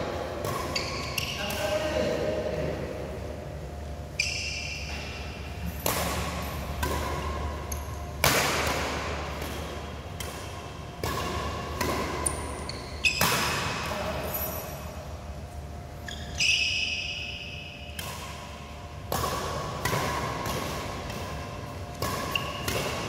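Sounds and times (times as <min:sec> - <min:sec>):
rackets hitting shuttlecock: 0:00.0 - 0:02.1, 0:04.2 - 0:14.6, 0:16.2 - 0:23.0.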